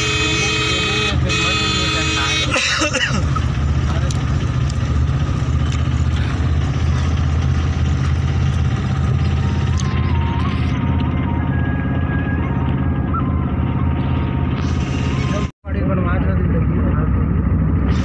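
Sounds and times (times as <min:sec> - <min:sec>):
road noise: 0:00.0 - 0:18.0
van engine rumble: 0:00.0 - 0:18.0.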